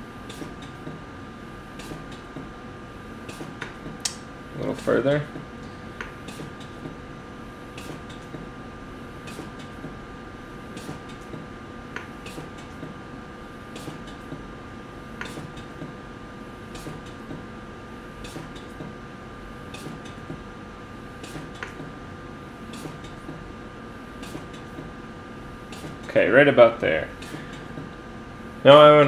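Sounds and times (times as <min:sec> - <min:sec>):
faint machine whine: 0:00.0 - 0:29.0
steady machine hum: 0:00.0 - 0:29.0.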